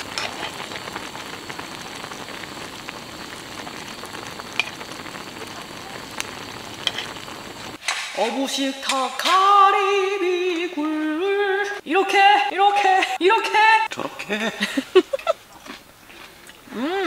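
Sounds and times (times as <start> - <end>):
pot boiling and bubbling: 0.0 - 17.0.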